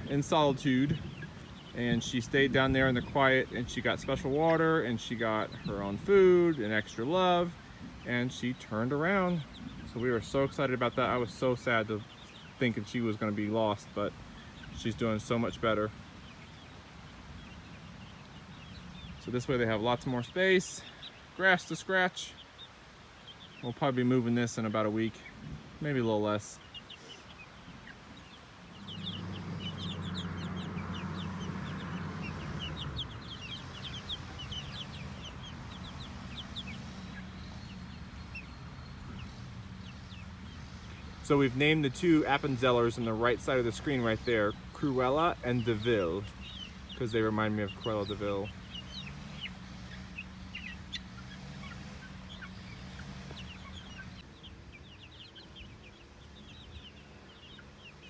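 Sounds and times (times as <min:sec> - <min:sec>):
chicks peeping and chirping: 0:00.0 - 0:58.0.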